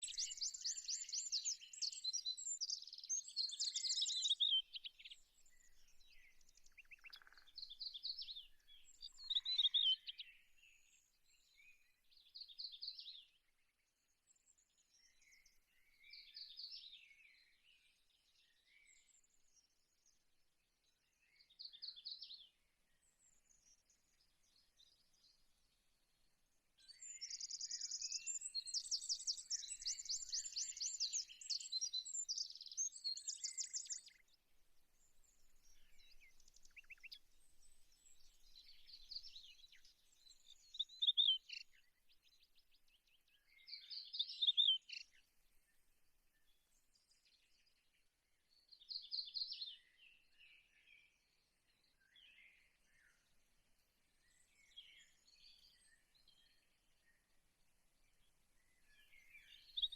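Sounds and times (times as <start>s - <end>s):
songbirds chirping and singing: 0.0s - 13.4s, 14.3s - 19.3s, 26.8s - 34.4s, 35.0s - 45.3s, 46.4s - 57.2s, 57.9s - 59.9s.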